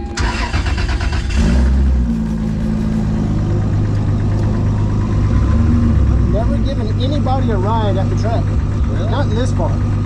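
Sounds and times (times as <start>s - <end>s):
car engine running loud and uneven: 0.0s - 10.0s.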